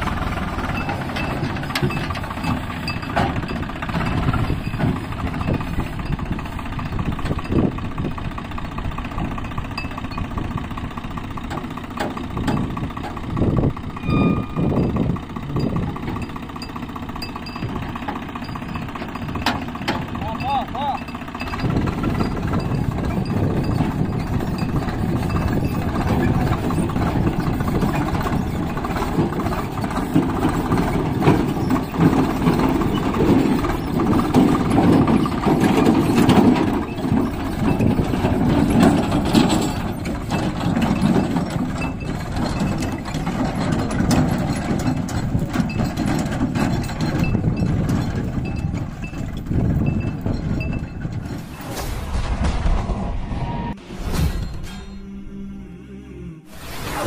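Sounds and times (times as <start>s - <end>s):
diesel tractor engine running: 0.0s - 55.5s.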